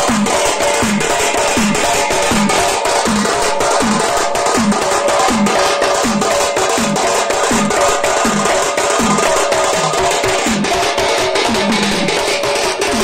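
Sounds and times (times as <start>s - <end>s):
barrel drum deep beats: 0.0s - 13.0s
frame drum: 0.0s - 13.0s.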